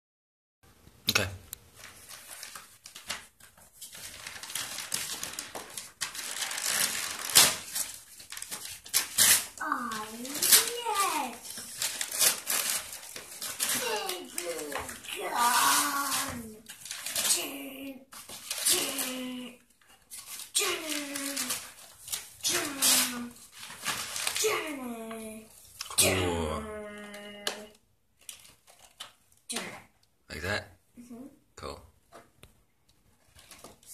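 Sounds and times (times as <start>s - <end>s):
wrapping paper rustling and tearing: 1.8s - 26.0s, 26.7s - 29.7s, 33.2s - 33.9s.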